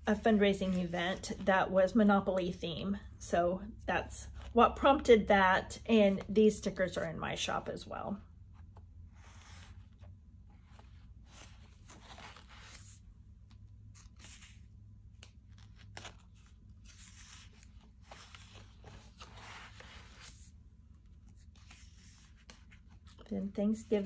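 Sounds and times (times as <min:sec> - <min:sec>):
planner pages rustling and crinkling: 0:00.0 - 0:03.0, 0:04.2 - 0:05.1, 0:08.4 - 0:24.0
low steady hum: 0:00.0 - 0:24.0.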